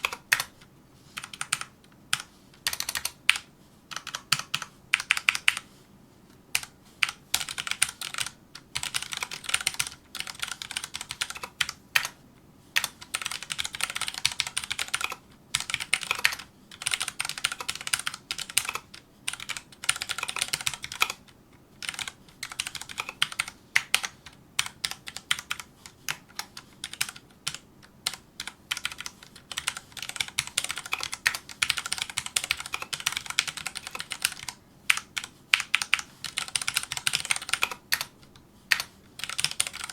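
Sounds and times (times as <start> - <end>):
fast typing on mechanical keyboard: 0.0 - 0.6, 1.2 - 5.6, 6.6 - 12.2, 12.8 - 39.9.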